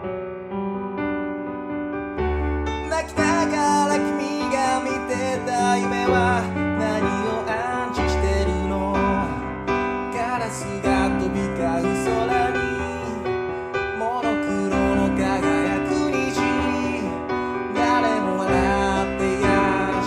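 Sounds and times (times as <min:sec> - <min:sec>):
slow piano song: 0:00.0 - 0:20.0.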